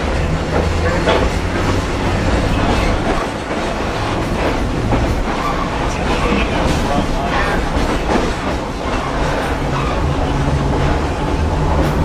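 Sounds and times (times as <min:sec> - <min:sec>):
train wheels rumbling on track: 0:00.0 - 0:12.0
wheels clicking over rail joints: 0:00.0 - 0:12.0.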